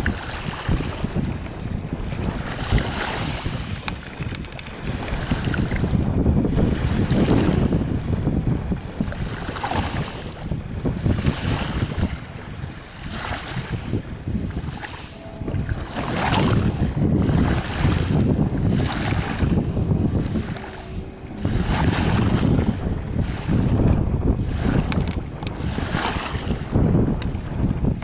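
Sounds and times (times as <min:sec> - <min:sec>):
speedboat outboard motor: 0:00.0 - 0:28.0
wind rumbling on microphone: 0:00.0 - 0:28.0.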